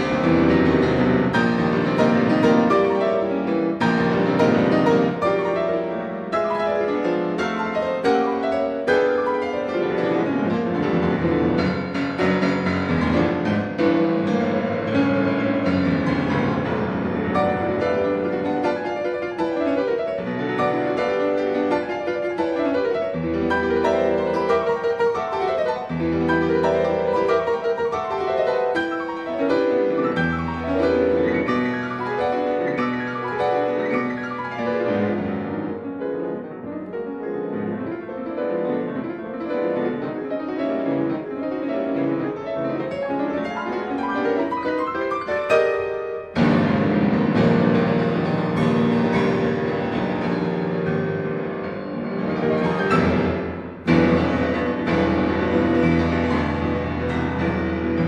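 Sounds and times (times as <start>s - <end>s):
classical keyboard music: 0.0s - 58.0s.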